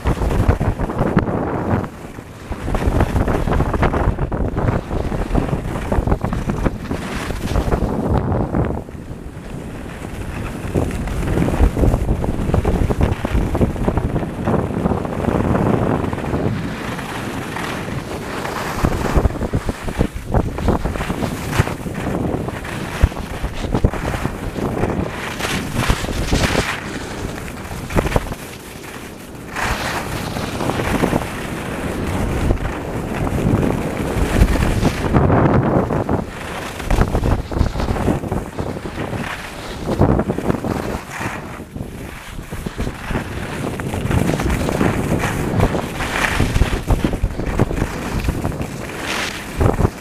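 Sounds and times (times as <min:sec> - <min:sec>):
ski edges scraping snow: 0:00.0 - 0:50.0
wind rushing over microphone: 0:00.0 - 0:50.0.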